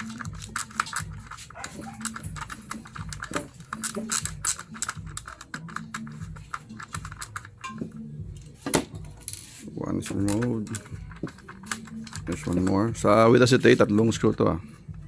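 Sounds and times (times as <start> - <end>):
screwdriver clicking: 0.0 - 8.0, 10.0 - 14.4.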